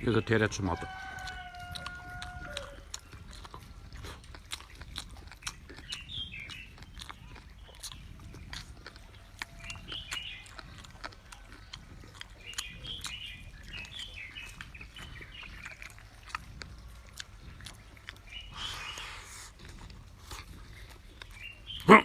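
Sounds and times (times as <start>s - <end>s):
small birds chirping: 0.0s - 22.0s
person chewing food: 0.7s - 22.0s.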